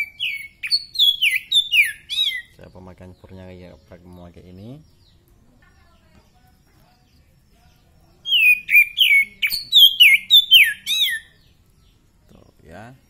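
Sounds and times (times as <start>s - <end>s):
bird singing whistled notes: 0.0s - 13.0s.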